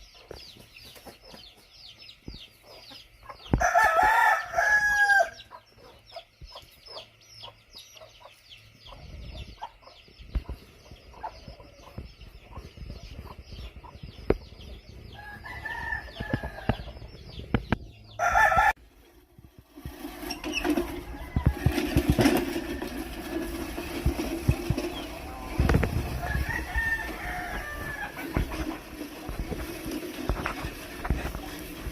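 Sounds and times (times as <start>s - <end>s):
chickens chirping and clucking: 0.0s - 31.9s.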